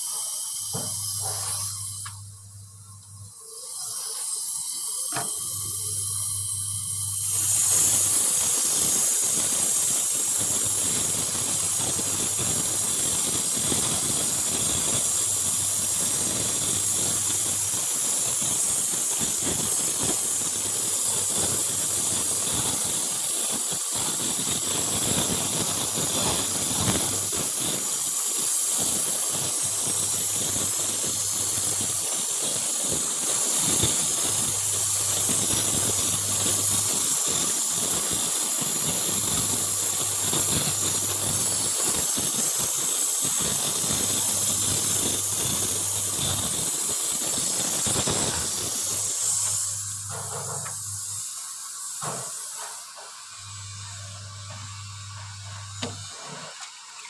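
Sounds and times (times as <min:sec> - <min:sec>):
gas torch flame hissing: 0:00.0 - 0:57.0.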